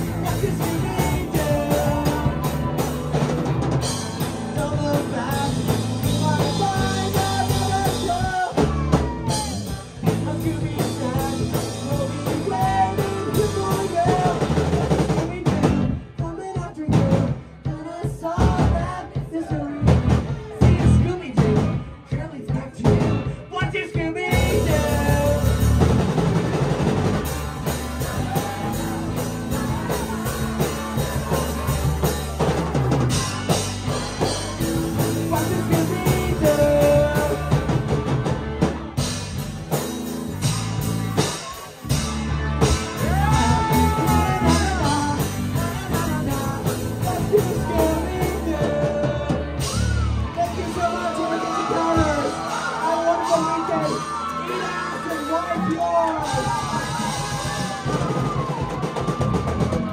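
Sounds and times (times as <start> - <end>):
person singing: 0.0 - 38.8, 42.6 - 59.9
drum kit playing: 0.0 - 59.9
live rock band: 0.0 - 59.9.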